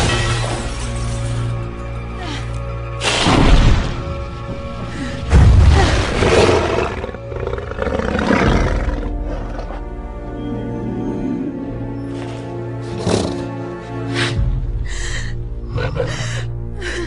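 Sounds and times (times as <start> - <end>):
dark orchestral music: 0.0 - 17.0.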